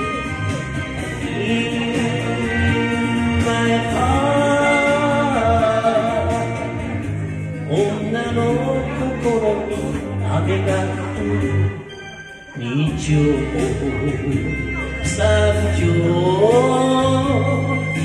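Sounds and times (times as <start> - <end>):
backing track music: 0.0 - 18.0
man singing into a microphone: 0.0 - 18.0.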